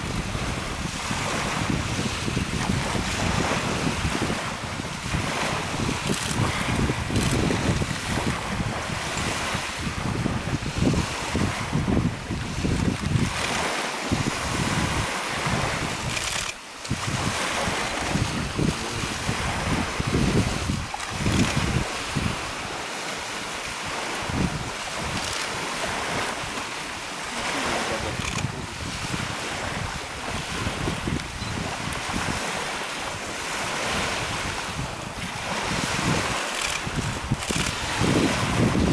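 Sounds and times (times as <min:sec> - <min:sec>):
lake waves washing onto pebbles: 0:00.0 - 0:38.9
wind buffeting microphone: 0:00.0 - 0:38.9.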